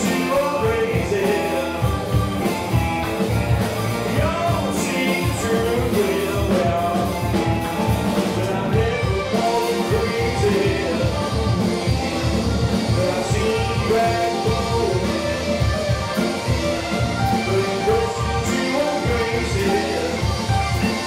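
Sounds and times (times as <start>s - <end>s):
live rock band playing: 0.0s - 21.0s
steady drum beat: 0.0s - 21.0s.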